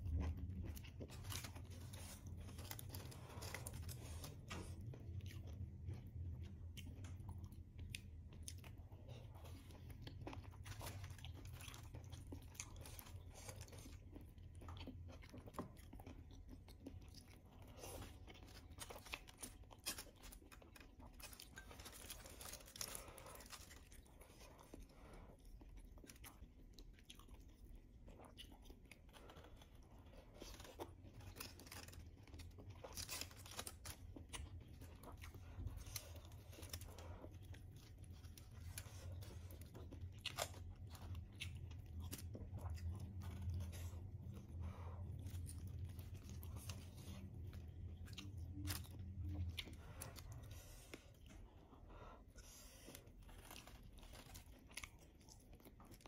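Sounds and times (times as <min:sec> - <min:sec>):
low steady hum: 0:00.0 - 0:56.0
meat torn and chewed: 0:00.0 - 0:56.0.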